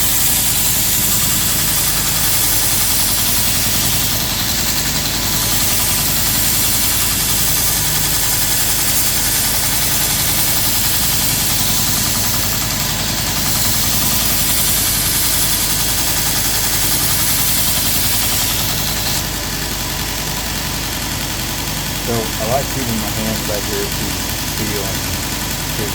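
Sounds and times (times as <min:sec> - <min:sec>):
belt grinder grinding steel: 0:00.0 - 0:25.9.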